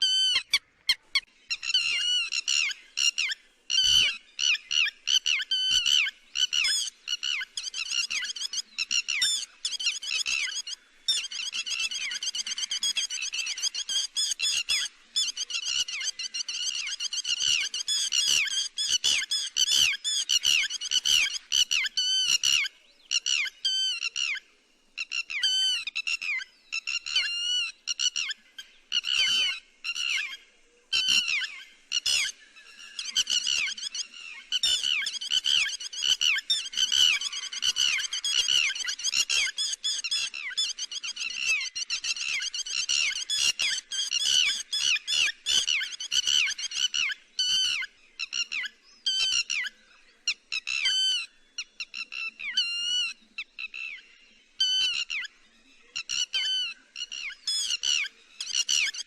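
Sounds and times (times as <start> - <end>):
lapwing calls: 0.0 - 59.0.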